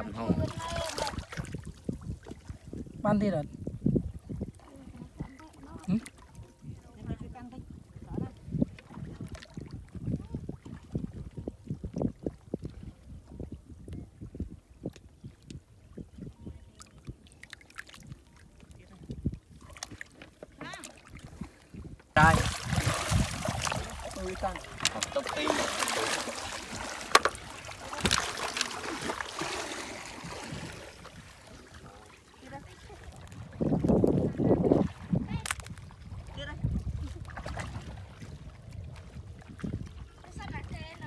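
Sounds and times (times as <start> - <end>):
muddy water sloshing: 0.0 - 3.2, 4.0 - 13.4, 14.9 - 41.0.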